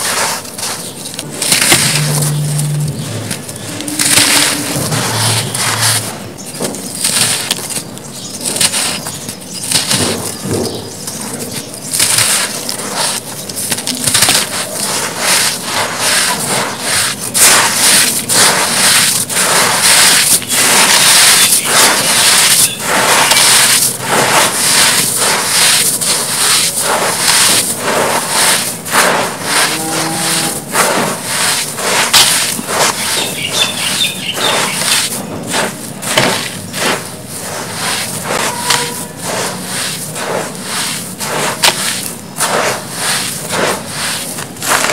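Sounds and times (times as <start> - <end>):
hands crunching sandy blocks: 0.0 - 44.9.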